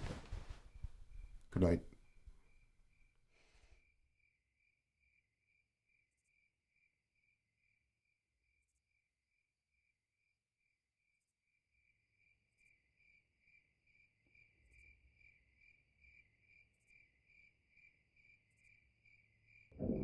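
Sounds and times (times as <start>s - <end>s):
crickets chirping: 0.0s - 8.6s, 11.6s - 19.7s.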